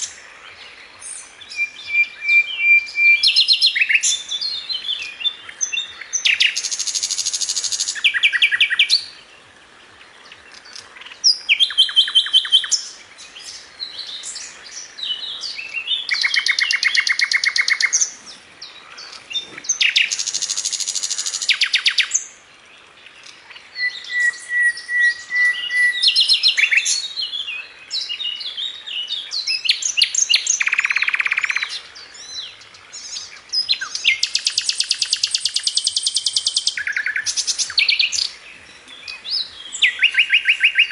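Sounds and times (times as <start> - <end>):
songbird singing trills: 0.0 - 40.9.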